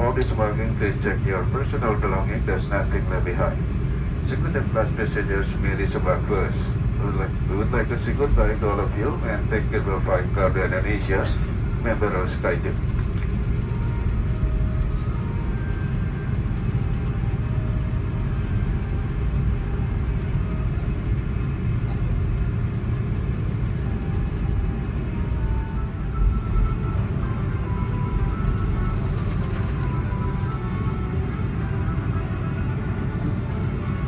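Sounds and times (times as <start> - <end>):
airplane cabin rumble taxiing: 0.0 - 34.0.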